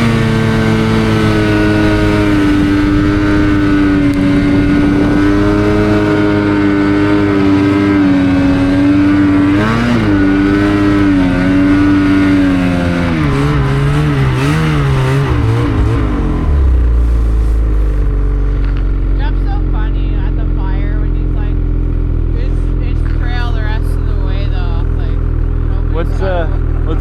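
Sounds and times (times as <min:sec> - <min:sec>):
snowmobile engine running: 0:00.0 - 0:27.0.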